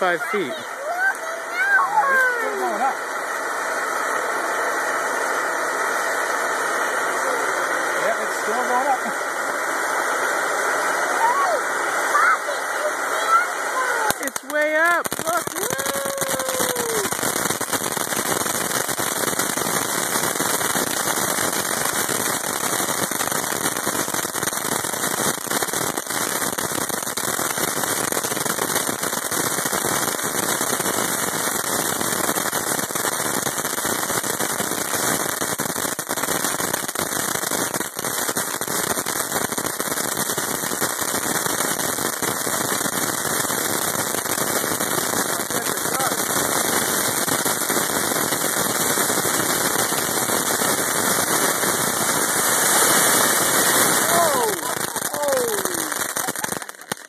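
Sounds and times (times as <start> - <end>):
firework crackling: 0.0 - 57.0.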